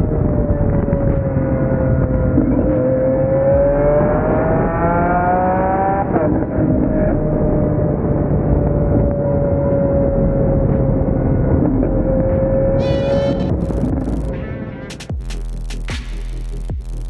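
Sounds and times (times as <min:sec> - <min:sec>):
sports car engine accelerating: 0:00.0 - 0:14.3.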